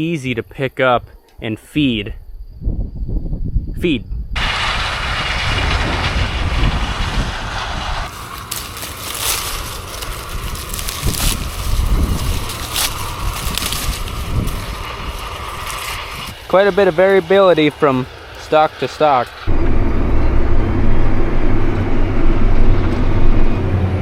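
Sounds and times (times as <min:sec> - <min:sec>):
combine harvester running: 0:04.4 - 0:24.0.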